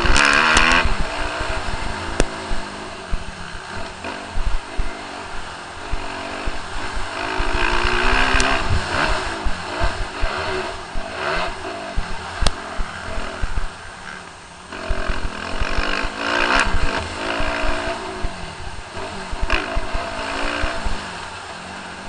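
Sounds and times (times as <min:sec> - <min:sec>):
motocross bike engine revving: 0:00.0 - 0:22.0.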